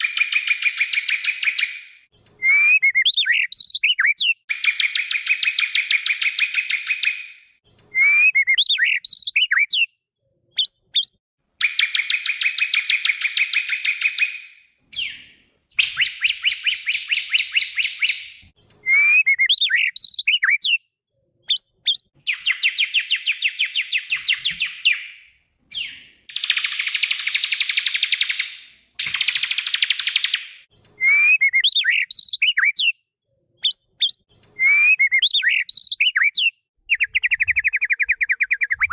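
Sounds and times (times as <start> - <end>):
songbird singing trills and whistles: 0.0 - 10.0, 10.6 - 20.9, 21.5 - 33.0, 33.6 - 38.9.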